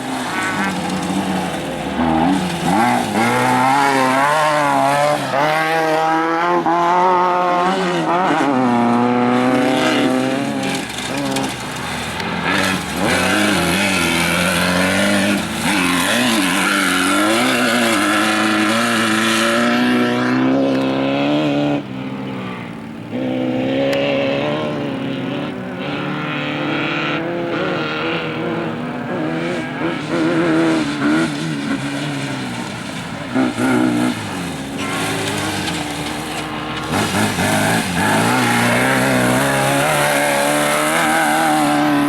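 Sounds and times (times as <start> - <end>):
race vehicle engines revving: 0.0 - 42.0.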